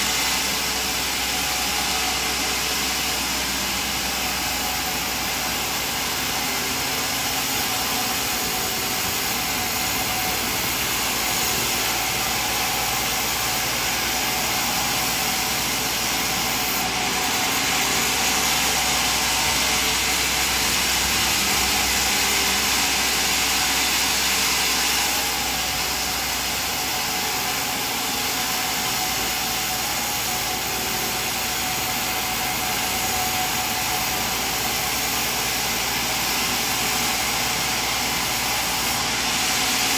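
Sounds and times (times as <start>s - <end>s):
sawmill machinery hissing: 0.0s - 39.9s.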